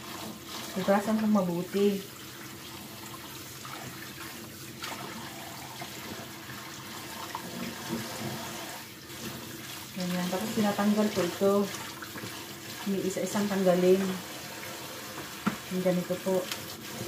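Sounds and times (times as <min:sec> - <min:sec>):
stalks rinsed in metal strainer: 0:00.0 - 0:17.0
tap water running into steel sink: 0:00.0 - 0:17.0.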